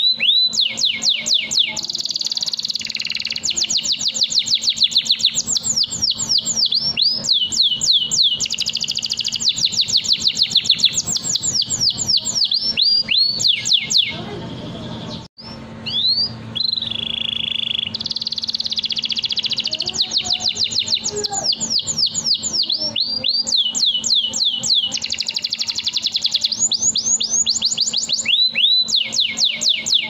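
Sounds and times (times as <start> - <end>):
canary singing: 0.0 - 30.0.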